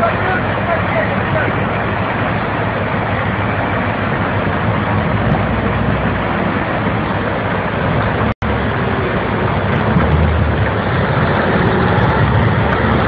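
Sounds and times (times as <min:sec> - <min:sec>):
bulldozer engine running: 0:00.0 - 0:13.0
river water rushing: 0:00.0 - 0:13.0
truck diesel engine: 0:00.0 - 0:13.0.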